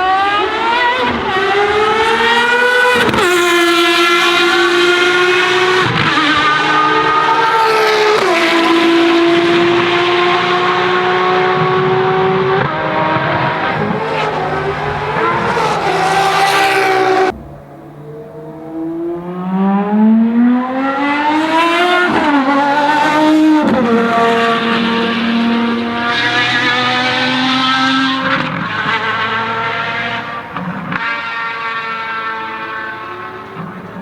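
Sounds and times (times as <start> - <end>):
racing car engine revving: 0.0 - 34.0.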